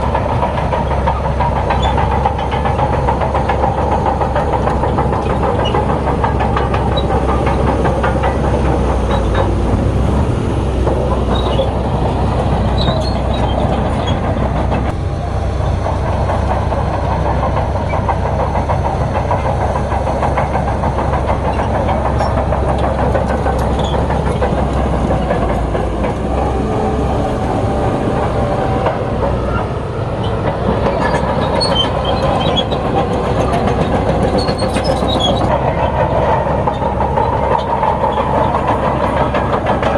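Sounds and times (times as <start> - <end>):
bulldozer diesel engine running: 0.0 - 39.9
steel tracks clattering: 0.0 - 39.9.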